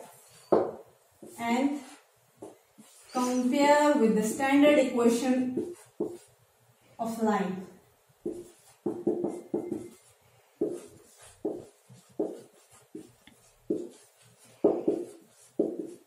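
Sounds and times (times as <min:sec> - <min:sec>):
marker writing on whiteboard: 0:00.0 - 0:03.7, 0:04.3 - 0:06.4, 0:08.2 - 0:16.0.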